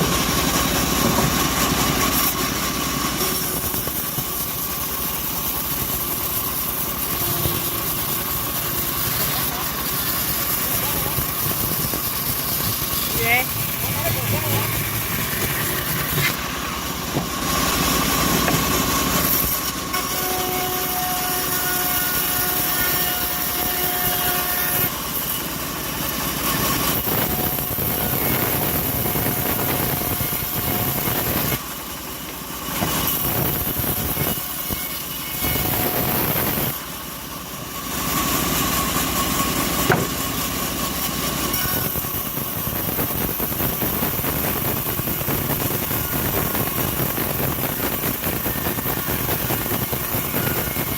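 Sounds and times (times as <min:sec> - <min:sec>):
bandsaw sawmill sawing log: 0:00.0 - 0:50.9.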